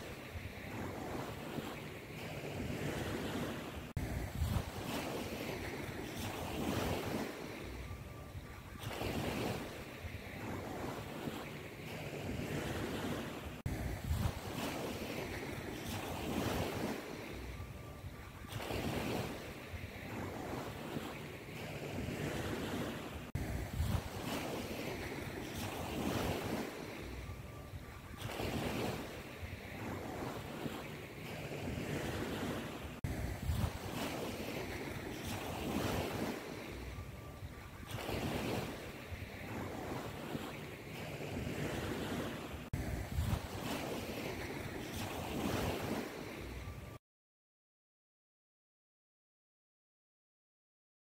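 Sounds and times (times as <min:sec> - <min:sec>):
ocean surf washing: 0:00.0 - 0:47.0.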